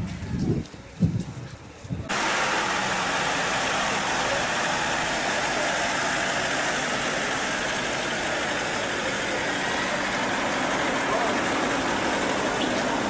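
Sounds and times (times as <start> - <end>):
street noise: 0.0 - 13.0
vehicle engine running: 2.1 - 13.0.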